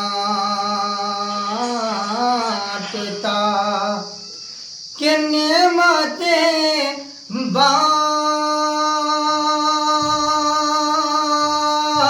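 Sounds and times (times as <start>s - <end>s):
man singing a long note: 0.0s - 4.2s, 5.0s - 12.0s.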